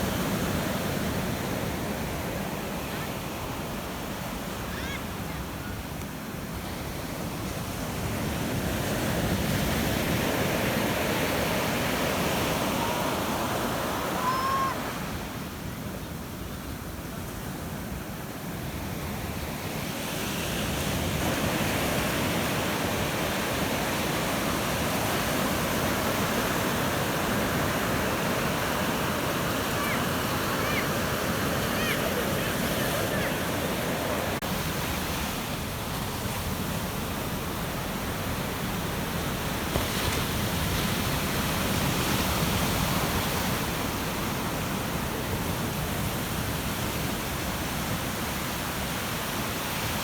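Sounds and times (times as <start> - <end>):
ocean surf breaking: 0.0 - 15.9, 18.4 - 50.0.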